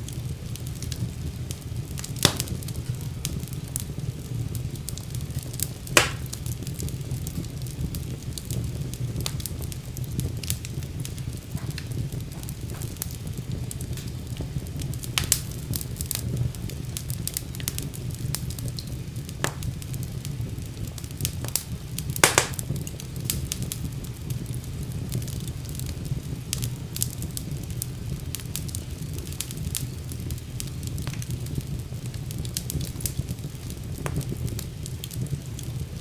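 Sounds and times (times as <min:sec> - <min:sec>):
sharp fire snaps: 0:00.0 - 0:36.0
wood fire crackling: 0:00.0 - 0:36.0.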